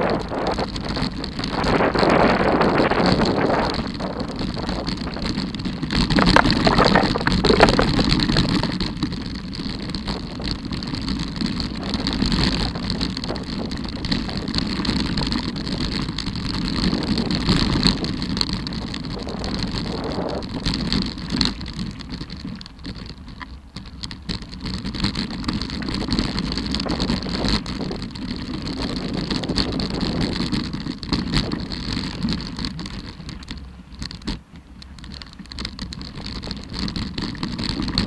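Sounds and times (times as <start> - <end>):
bike rattling: 0.0 - 38.0
knocks and clatters: 0.0 - 38.0
wind on microphone: 0.0 - 38.0
tyres crunching over stones: 1.6 - 38.0.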